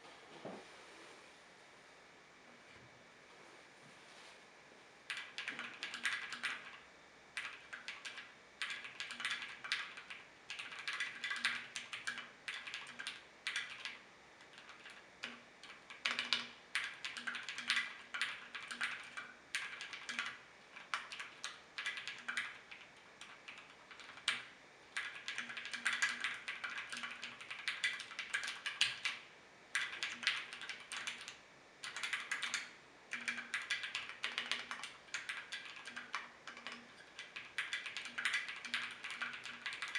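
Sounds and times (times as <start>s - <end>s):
mechanical keyboard keystroke clacks: 5.1s - 6.8s, 7.4s - 29.2s, 29.8s - 39.9s.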